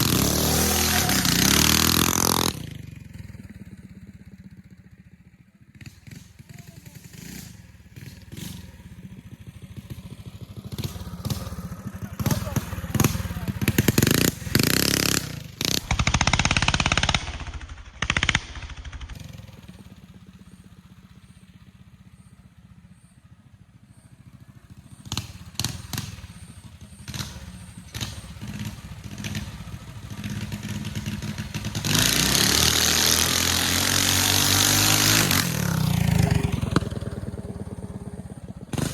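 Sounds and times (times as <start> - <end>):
mini bike engine running hard: 0.0 - 18.3, 19.0 - 38.9.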